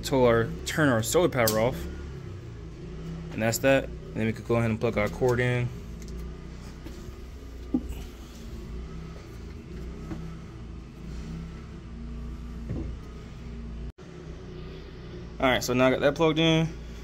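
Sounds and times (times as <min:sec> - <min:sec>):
generator engine hum: 0:00.0 - 0:17.0.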